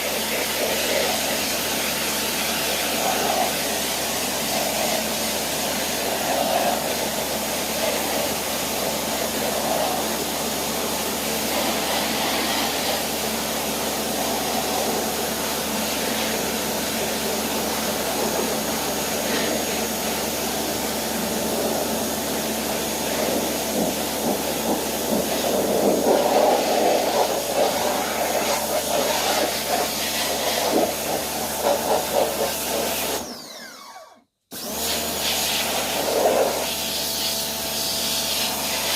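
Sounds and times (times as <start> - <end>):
water jet spraying on screen door: 0.0 - 33.2, 34.6 - 38.9
pressure cleaner motor hum: 0.0 - 38.9.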